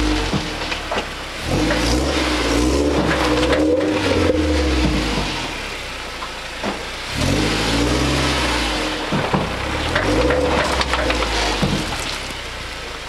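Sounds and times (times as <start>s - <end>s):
truck engine pulling under throttle: 0.0s - 13.0s.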